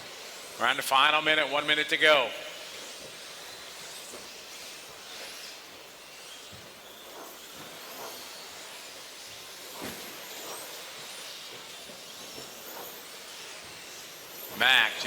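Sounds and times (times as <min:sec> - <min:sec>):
rc trucks motors hissing: 0:00.0 - 0:15.0.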